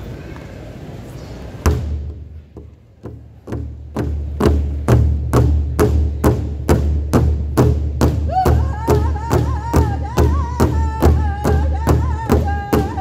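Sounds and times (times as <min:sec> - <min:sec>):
large drum beating with low boom: 0:01.6 - 0:13.0.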